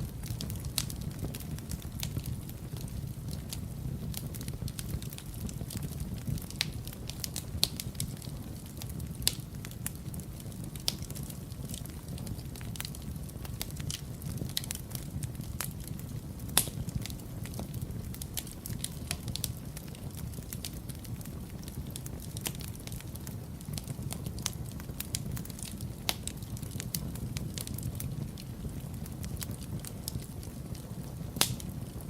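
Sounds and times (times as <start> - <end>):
wood fire burning: 0.0 - 32.0.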